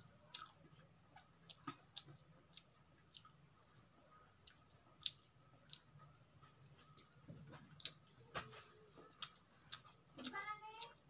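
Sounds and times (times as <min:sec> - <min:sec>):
chewing mouth sounds: 0:00.2 - 0:03.4, 0:04.4 - 0:11.0.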